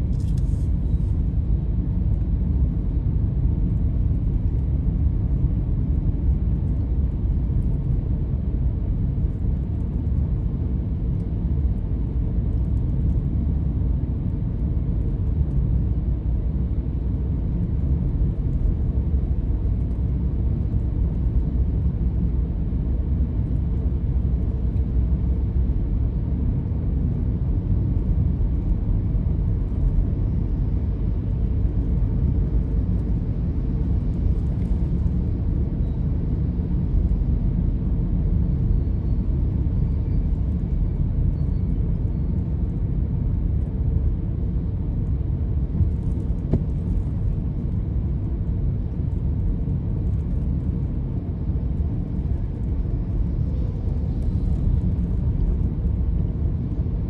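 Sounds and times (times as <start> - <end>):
car driving on road: 0.0 - 57.0.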